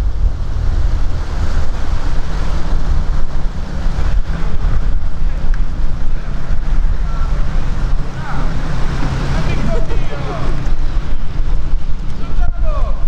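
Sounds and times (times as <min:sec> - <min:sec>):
boat motor running: 0:00.0 - 0:13.0
wind rumbling on microphone: 0:00.0 - 0:13.0.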